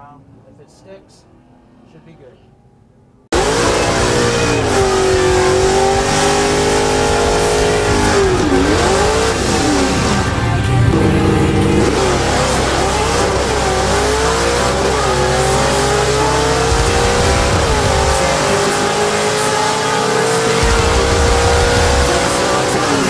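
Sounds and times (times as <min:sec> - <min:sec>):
car engine at full throttle: 0:03.3 - 0:23.0.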